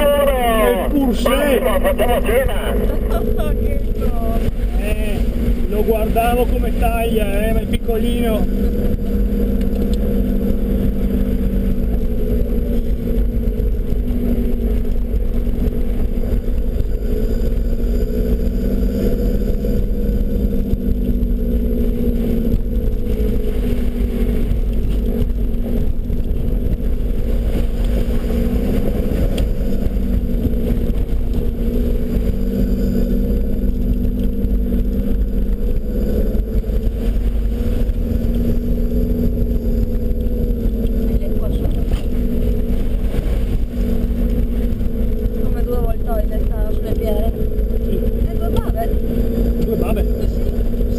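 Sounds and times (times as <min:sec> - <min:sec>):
car engine drone: 0:00.0 - 0:50.9.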